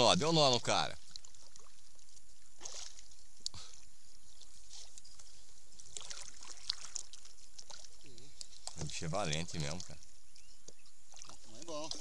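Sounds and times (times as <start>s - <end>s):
water lapping at hull: 0.0s - 12.0s.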